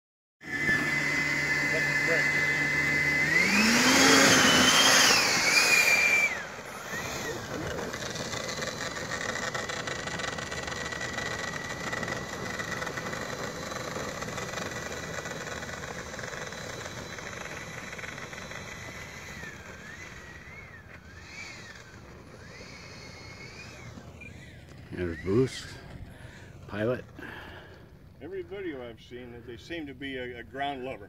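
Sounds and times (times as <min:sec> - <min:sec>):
model jet fan whine: 0:00.4 - 0:31.0.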